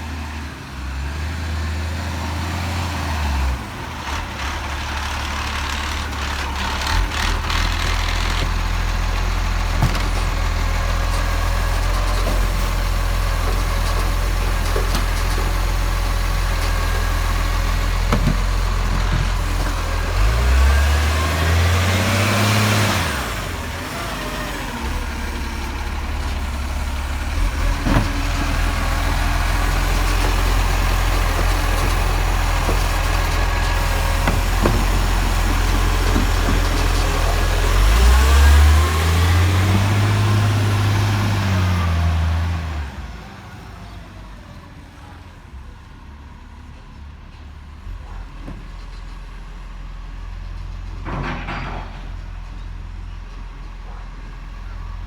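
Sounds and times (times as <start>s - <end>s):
garbage truck engine droning: 0.0s - 55.0s.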